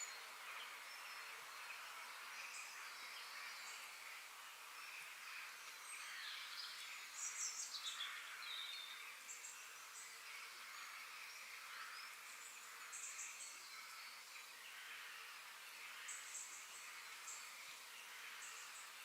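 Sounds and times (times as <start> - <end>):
faint steady hiss: 0.0 - 19.0
small birds chirping: 0.0 - 19.0.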